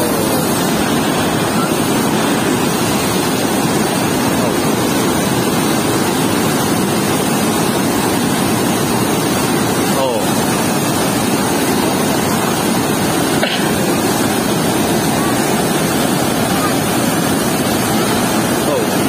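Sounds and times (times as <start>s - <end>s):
water rushing from sluice gate: 0.0s - 19.0s.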